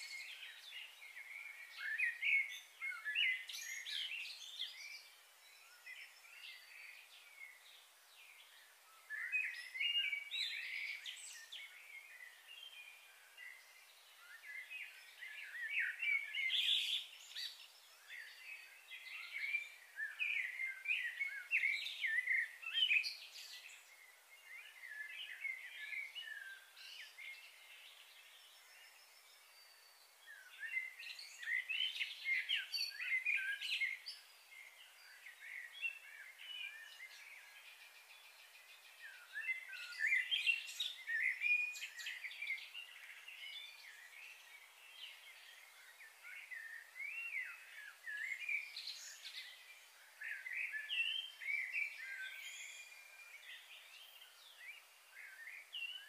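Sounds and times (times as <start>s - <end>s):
small birds twittering: 0.0s - 56.0s.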